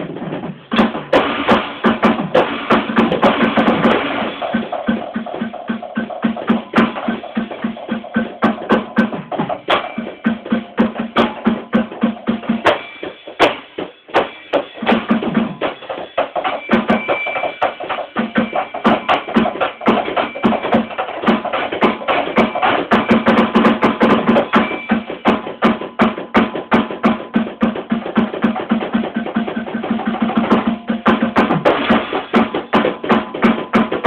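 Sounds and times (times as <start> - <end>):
electronic drum hits: 0.2 - 34.0.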